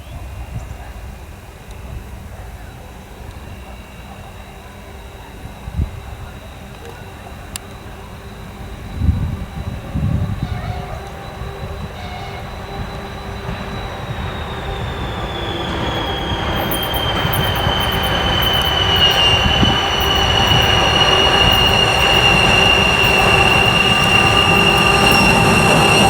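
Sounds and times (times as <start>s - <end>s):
locomotive engine and train rumble: 0.0s - 26.0s
turbocharger whine: 4.5s - 26.0s.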